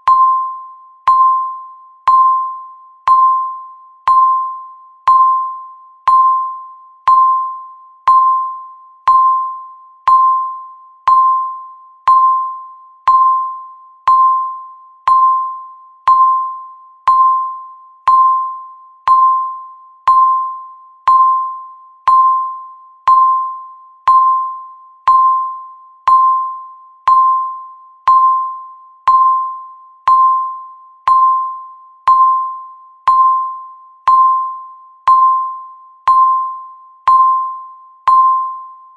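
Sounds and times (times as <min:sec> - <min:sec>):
timer tick ping with click: 0:00.0 - 0:38.9.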